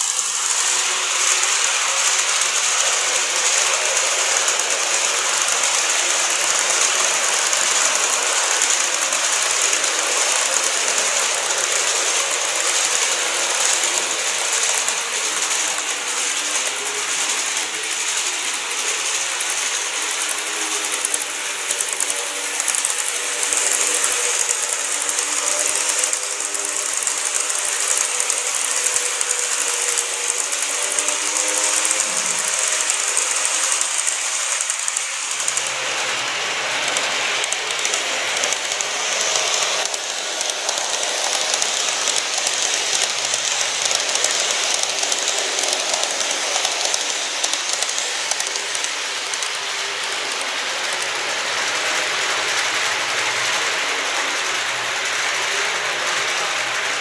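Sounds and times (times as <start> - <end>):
model trains whirring on track: 0.0 - 57.0
rapid clicking of wheels: 0.0 - 57.0.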